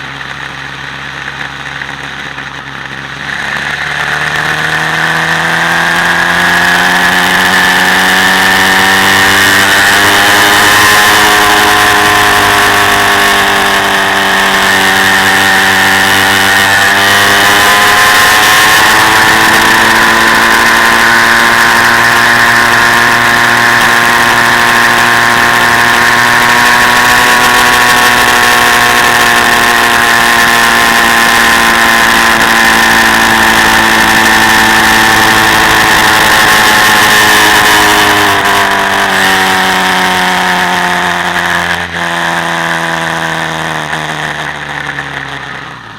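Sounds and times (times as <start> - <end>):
quad bike engine running: 0.0 - 45.9.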